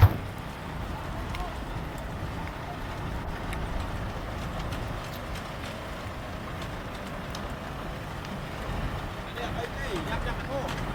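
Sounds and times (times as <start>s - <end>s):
construction machinery rumbling: 0.0s - 10.9s.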